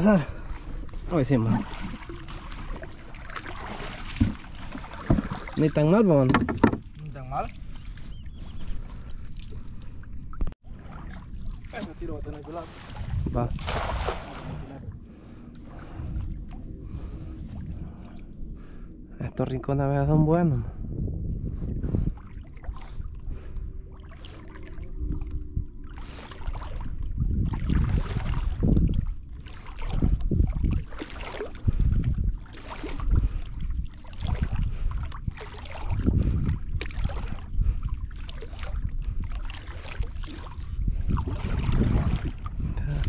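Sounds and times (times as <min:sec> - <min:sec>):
water sloshing around canoe hull: 0:00.0 - 0:19.7, 0:20.8 - 0:43.0
wind rumbling on microphone: 0:00.0 - 0:43.0.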